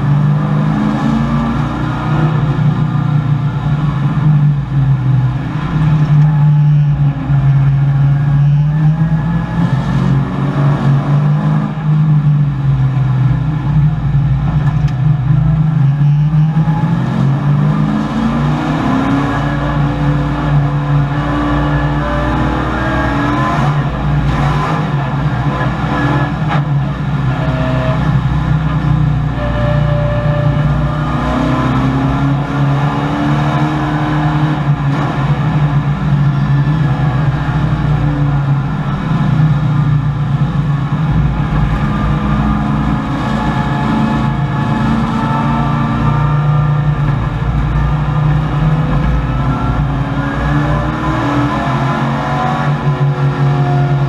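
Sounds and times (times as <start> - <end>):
race car engine from inside cabin: 0.0 - 54.0.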